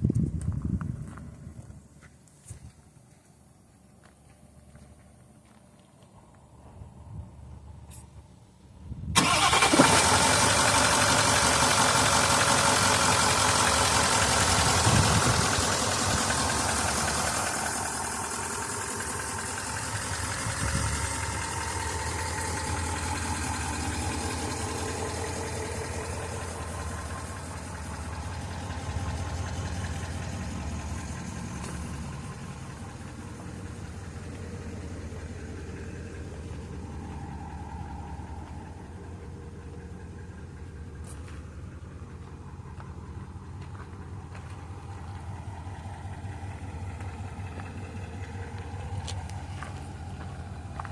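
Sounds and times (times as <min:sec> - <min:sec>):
diesel engine starting and idling: 0:00.0 - 0:50.9.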